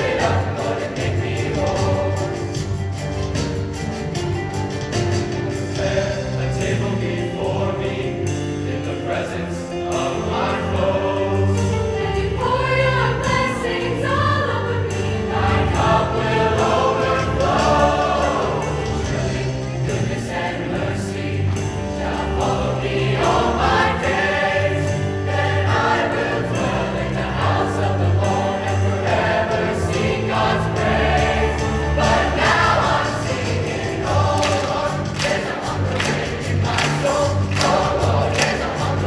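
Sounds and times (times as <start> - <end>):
choir singing in harmony: 0.0 - 3.7, 5.1 - 39.0.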